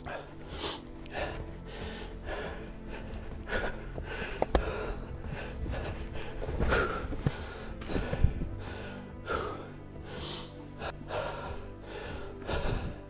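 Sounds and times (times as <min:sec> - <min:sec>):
person breathing heavily: 0:00.0 - 0:13.0.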